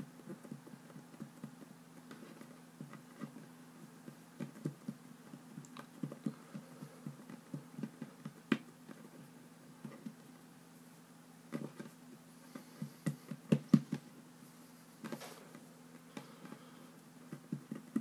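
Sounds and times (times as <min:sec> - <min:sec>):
fingers patting play dough: 0:00.0 - 0:10.3, 0:11.5 - 0:14.3, 0:16.0 - 0:18.0
low steady hum: 0:00.0 - 0:18.0.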